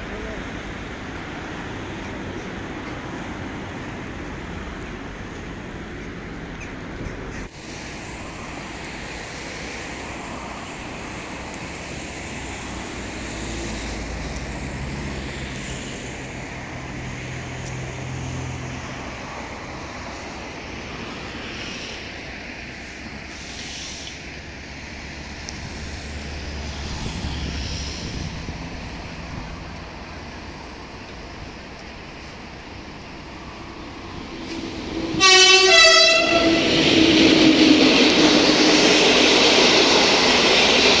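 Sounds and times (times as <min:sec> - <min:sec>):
heavy vehicle engine hum: 0:00.0 - 0:41.0
road traffic: 0:00.0 - 0:41.0.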